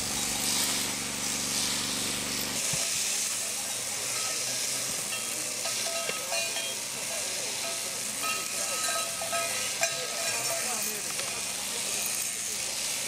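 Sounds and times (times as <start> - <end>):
sheep shearing machines hissing: 0.0 - 13.0.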